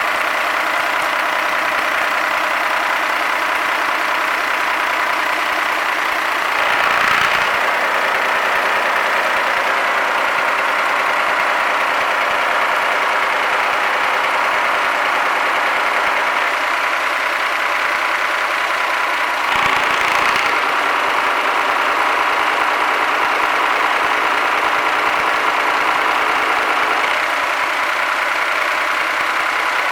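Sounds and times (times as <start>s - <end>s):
marine diesel engine running: 0.0s - 29.9s.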